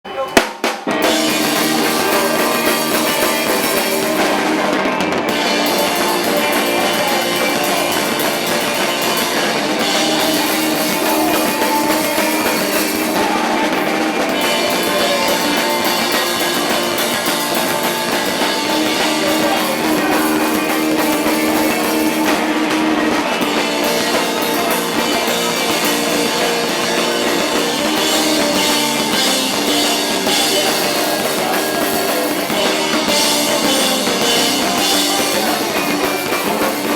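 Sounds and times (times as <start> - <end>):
rock band playing: 0.1 - 36.9.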